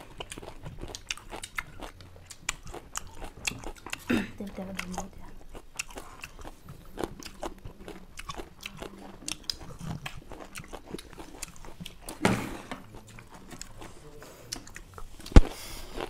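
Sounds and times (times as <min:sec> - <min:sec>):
people chewing lemon: 0:00.0 - 0:16.0.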